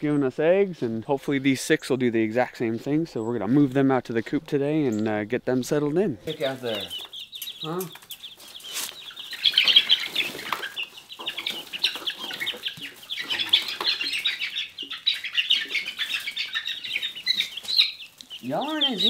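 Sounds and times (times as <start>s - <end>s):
chicks peeping rapidly: 0.0s - 19.0s.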